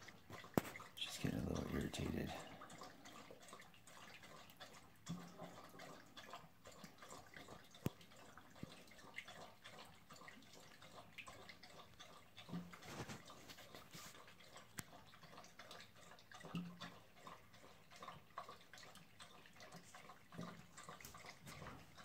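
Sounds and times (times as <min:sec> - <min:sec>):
dog lapping water: 0:00.0 - 0:22.0.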